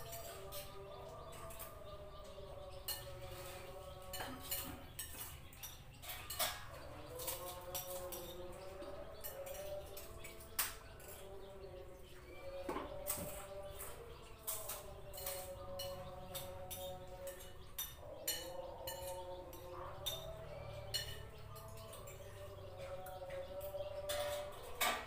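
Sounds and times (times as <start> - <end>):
plates and utensils clinking: 0.0 - 25.0.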